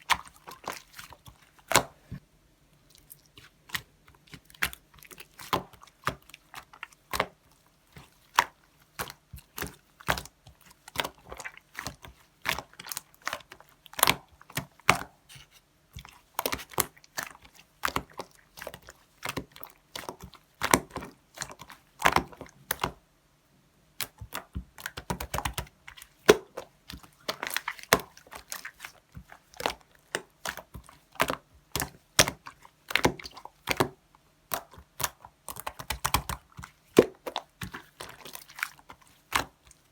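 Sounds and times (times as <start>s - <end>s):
slime squished by hand: 2.9s - 23.0s, 24.0s - 39.9s.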